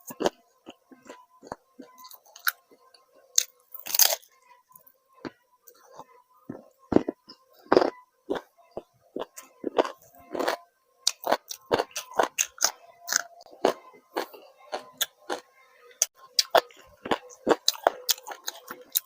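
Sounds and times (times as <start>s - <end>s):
crunchy food chewing: 0.0s - 19.0s.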